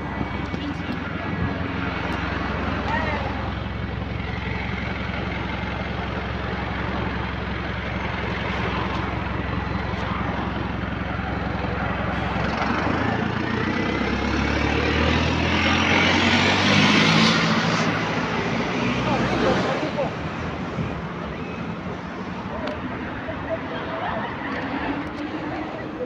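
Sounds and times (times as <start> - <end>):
bus engine running: 0.0 - 26.0.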